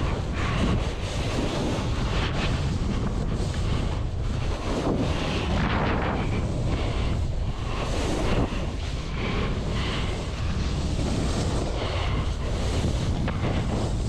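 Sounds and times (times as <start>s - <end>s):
splitboard hissing through snow: 0.0s - 14.0s
wind buffeting microphone: 0.0s - 14.0s.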